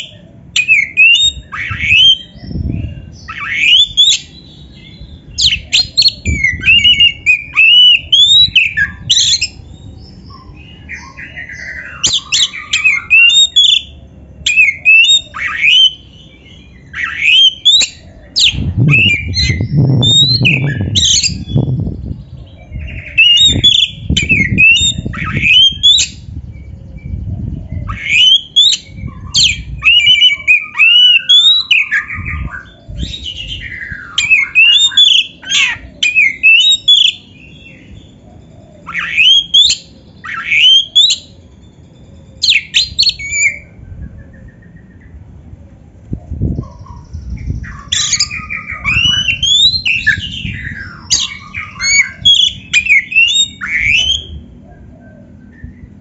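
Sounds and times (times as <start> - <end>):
harsh squawky bird notes: 0.0 - 21.7, 27.7 - 45.1, 47.6 - 56.0
magpie-robin singing whistles: 0.0 - 45.2, 46.6 - 56.0.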